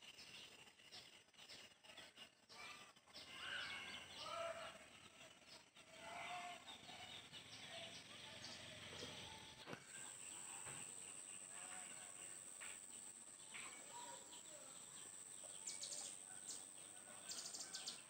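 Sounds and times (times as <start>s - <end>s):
animal and bird calls: 0.4s - 18.0s.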